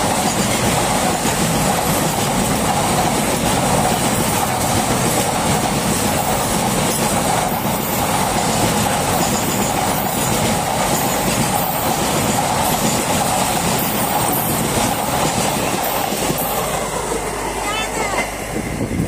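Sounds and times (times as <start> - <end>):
steel wheels on rails: 0.0 - 19.0.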